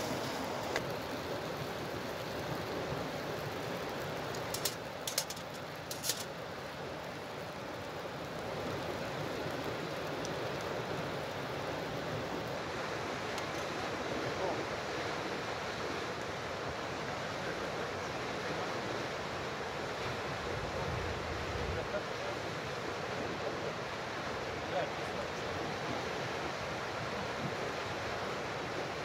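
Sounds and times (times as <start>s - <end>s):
steady rushing hiss: 0.0s - 29.0s.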